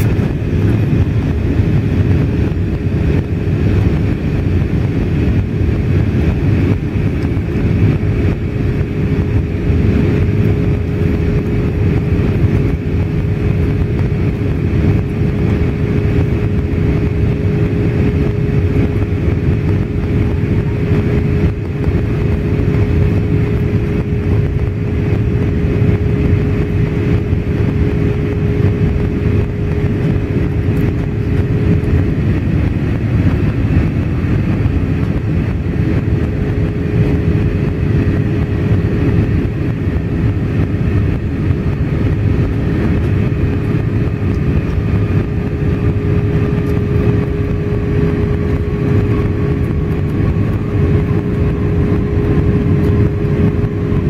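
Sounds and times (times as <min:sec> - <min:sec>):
aircraft engine drone: 0:00.0 - 0:54.0
rushing airflow: 0:00.0 - 0:54.0
steady hum: 0:00.0 - 0:54.0.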